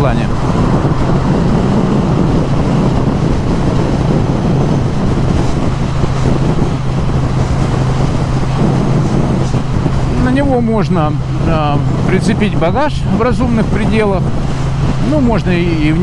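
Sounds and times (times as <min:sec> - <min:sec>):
wind and road noise: 0:00.0 - 0:16.0
motorcycle engine running: 0:00.2 - 0:16.0.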